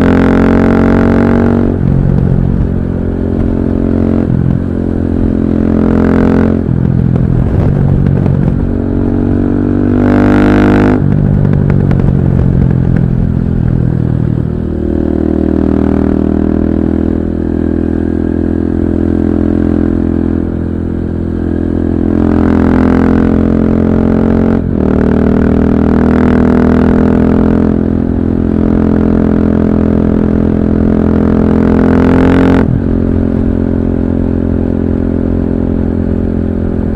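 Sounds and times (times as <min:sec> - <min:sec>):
muffled motorcycle engine revving: 0:00.0 - 0:36.9.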